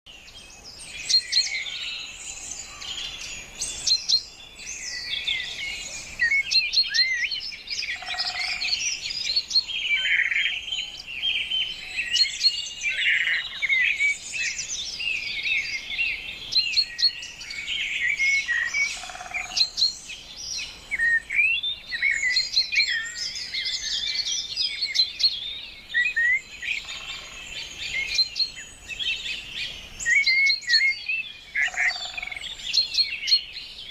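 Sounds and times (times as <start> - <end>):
songbirds chirping and singing: 0.1 - 33.9.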